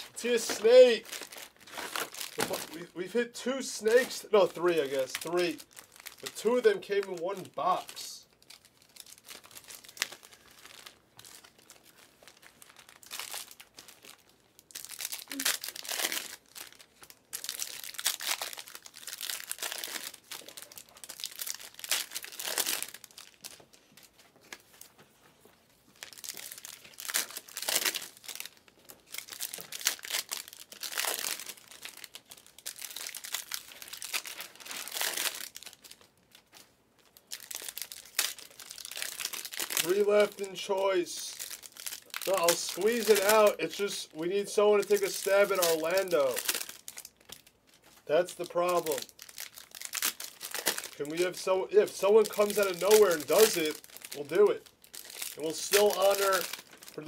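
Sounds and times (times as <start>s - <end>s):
foil wrappers tearing and crinkling: 0.0s - 24.9s, 26.0s - 57.0s.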